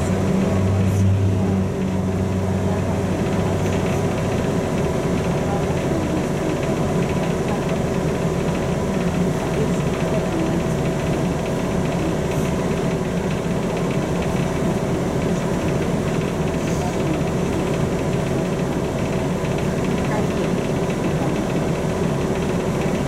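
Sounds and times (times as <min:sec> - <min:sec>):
bus engine hum and rumble: 0:00.0 - 0:23.0.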